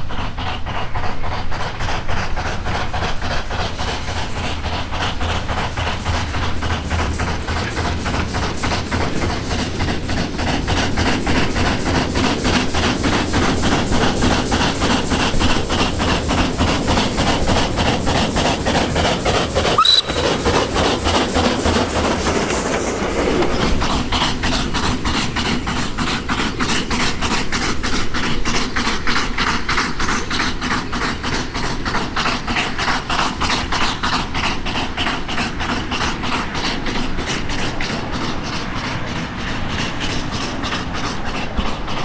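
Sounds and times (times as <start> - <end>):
steam railcar exhaust beating: 0.0 - 42.0.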